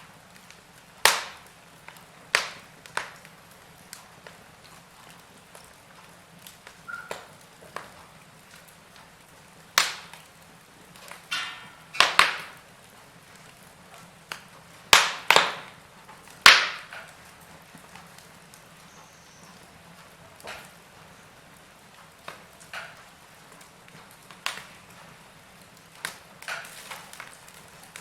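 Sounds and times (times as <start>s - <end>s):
faint steady hiss: 0.0s - 28.0s
wood fire crackling: 0.0s - 28.0s.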